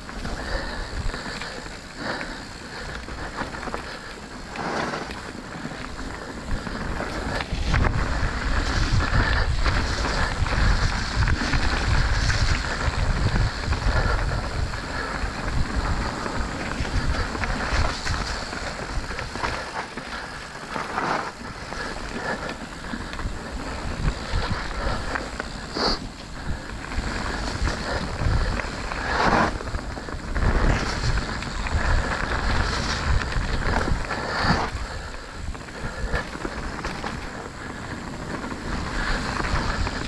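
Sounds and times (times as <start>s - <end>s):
bike knocking and rattling: 0.0s - 40.0s
bike tyre noise: 0.0s - 40.0s
wind buffeting microphone: 0.0s - 40.0s.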